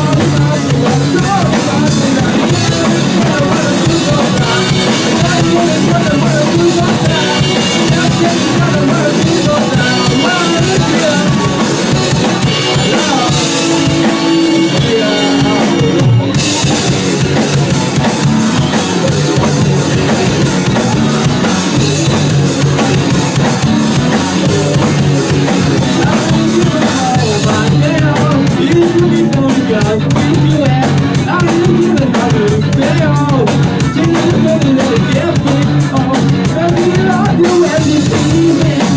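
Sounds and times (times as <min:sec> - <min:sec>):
drum kit with cymbals: 0:00.0 - 0:38.9
loud rock band music: 0:00.0 - 0:38.9.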